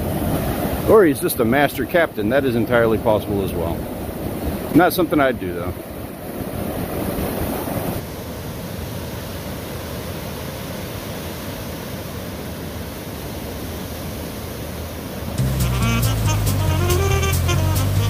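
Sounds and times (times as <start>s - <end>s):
ocean surf breaking on beach: 0.0s - 15.8s.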